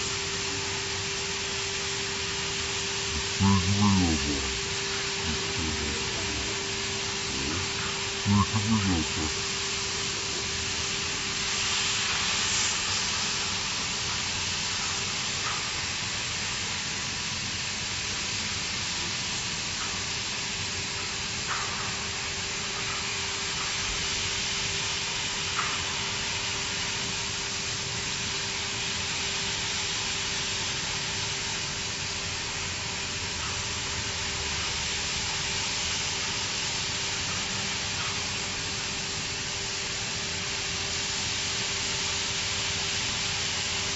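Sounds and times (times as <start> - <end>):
plasma torch hissing: 0.0 - 43.9.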